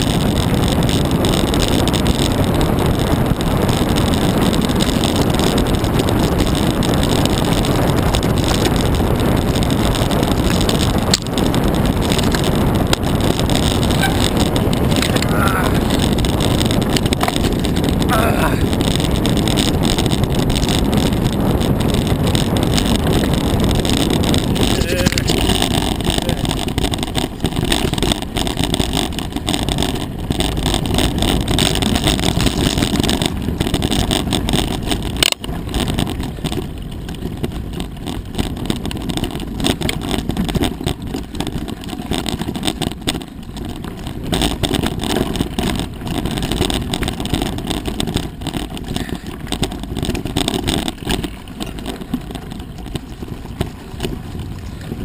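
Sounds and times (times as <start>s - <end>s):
bike rattling knocks: 0.0s - 55.0s
bike tyre rumble on dirt: 0.0s - 55.0s
wind buffeting microphone: 0.0s - 55.0s.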